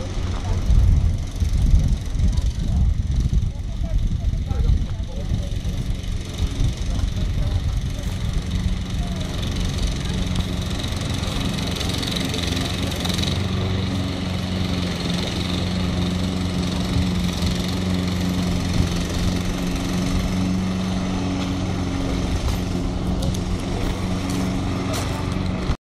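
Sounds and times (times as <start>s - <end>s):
petrol lawn mower running: 0.0s - 25.8s.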